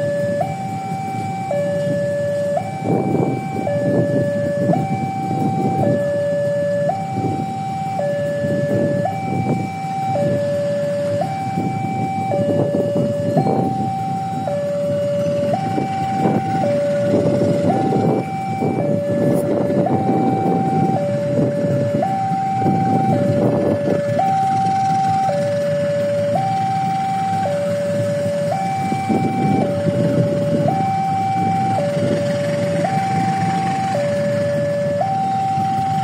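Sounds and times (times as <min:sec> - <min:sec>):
approaching train rumble: 0:00.0 - 0:36.0
level crossing two-tone alarm: 0:00.0 - 0:36.0.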